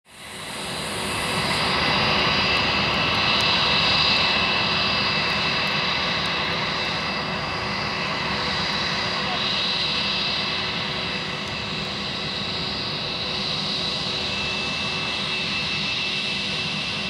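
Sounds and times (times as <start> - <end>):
jet engine whine: 0.1 - 17.0.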